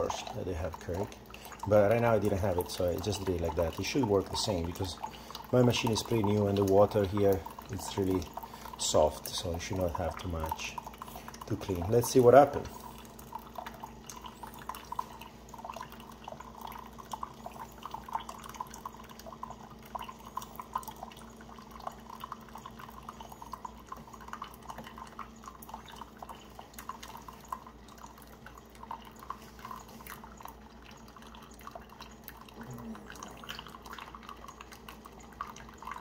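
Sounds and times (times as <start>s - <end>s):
low steady hum: 0.0s - 36.0s
water trickling into mug: 0.0s - 36.0s.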